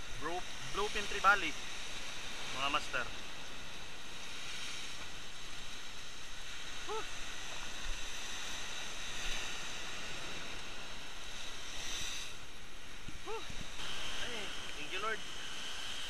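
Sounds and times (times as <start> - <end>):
surf breaking on rocks: 0.0 - 16.0.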